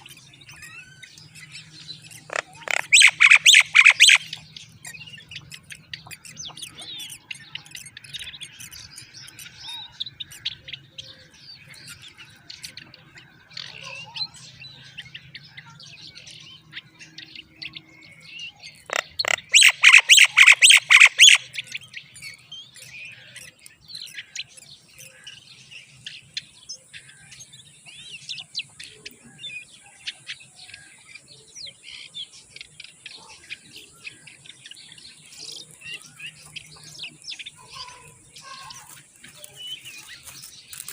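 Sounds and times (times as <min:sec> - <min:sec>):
chicks chirping: 0:00.0 - 0:29.2, 0:31.6 - 0:40.9.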